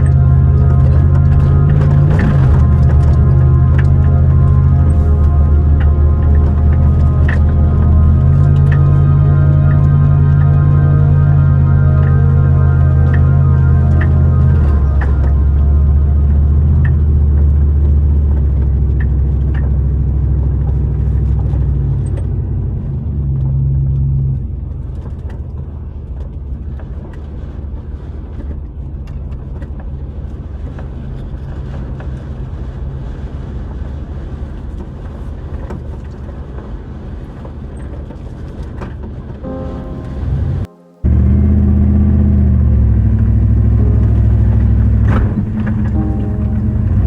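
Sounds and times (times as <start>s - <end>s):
vehicle engine droning: 0.0s - 47.0s.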